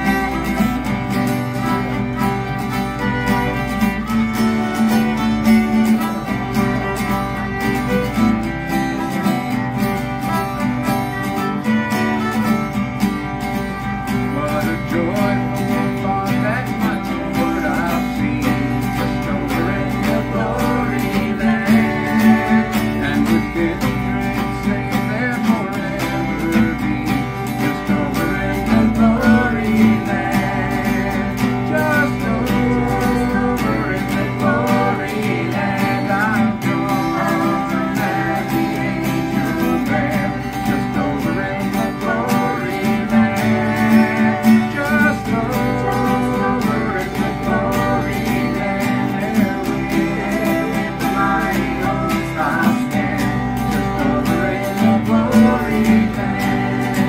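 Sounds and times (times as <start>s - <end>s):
fiddle playing melody: 0.0s - 56.8s
acoustic guitars strumming: 0.0s - 57.0s.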